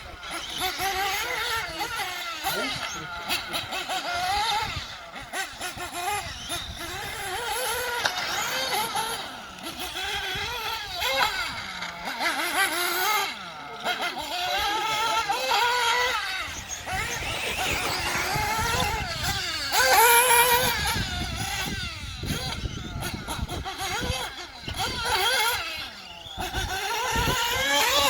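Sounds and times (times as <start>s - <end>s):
nitro rc car engine revving: 0.0s - 28.0s.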